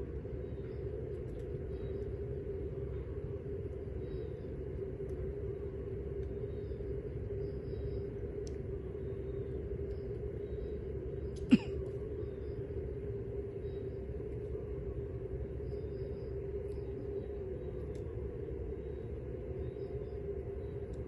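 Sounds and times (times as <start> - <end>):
constant hum: 0.0 - 21.0
low outdoor rumble: 0.0 - 21.0.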